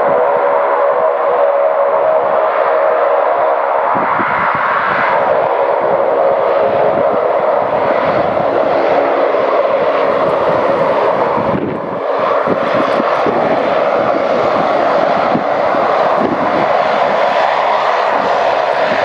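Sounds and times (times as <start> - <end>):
turboprop engines running: 0.0 - 19.0.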